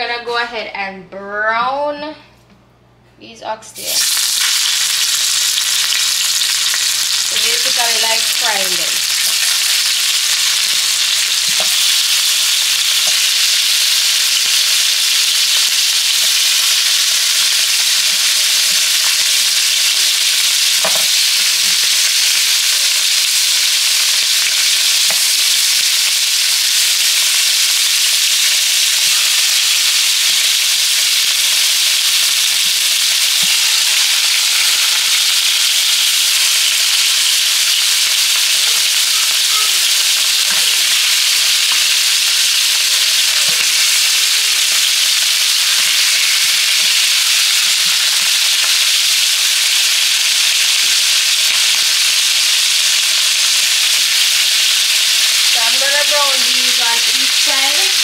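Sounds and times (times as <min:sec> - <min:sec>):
meat sizzling in hot oil: 0:03.8 - 0:58.0.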